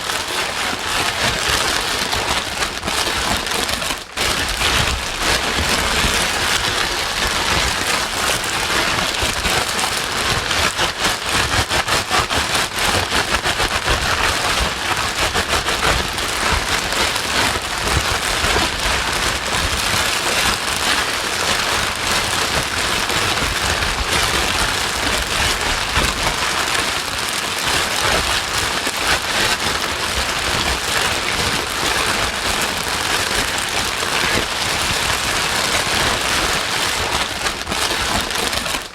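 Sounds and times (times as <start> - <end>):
heavy rain on a hard surface: 0.0 - 38.9.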